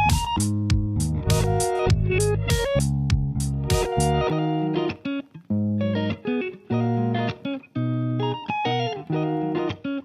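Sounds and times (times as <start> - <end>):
guitar playing held notes: 0.0 - 10.0.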